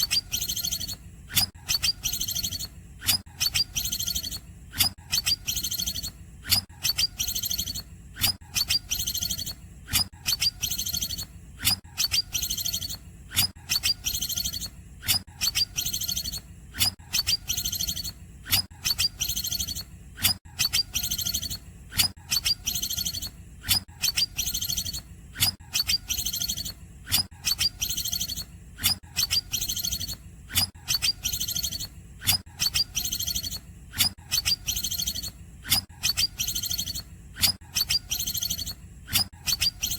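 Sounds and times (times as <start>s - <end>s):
bird singing high phrases: 0.0s - 7.9s, 8.5s - 9.6s, 10.2s - 11.3s, 11.9s - 16.4s, 17.1s - 19.9s, 20.6s - 23.4s, 24.0s - 25.0s, 25.7s - 26.8s, 27.4s - 33.6s, 34.3s - 39.9s.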